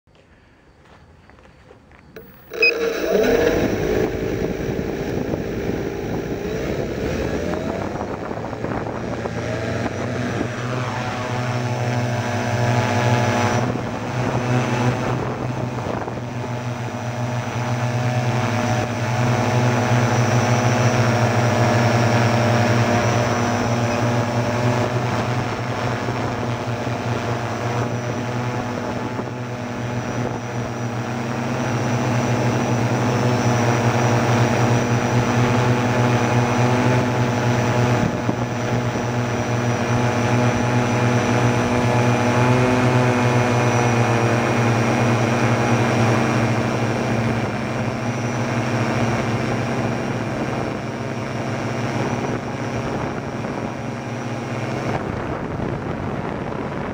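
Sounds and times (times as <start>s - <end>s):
drone propeller whine: 2.1s - 56.9s.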